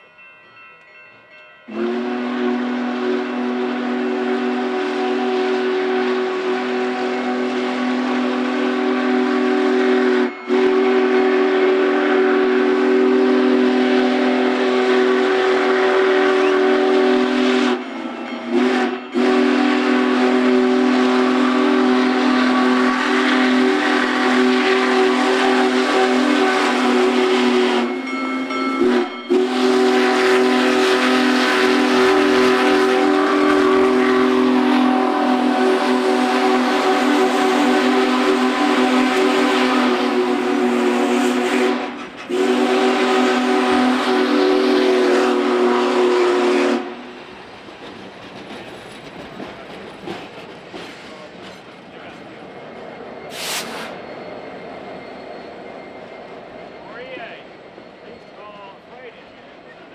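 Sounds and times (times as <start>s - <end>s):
steam locomotive whistle blasts: 1.7s - 47.2s, 53.2s - 56.2s.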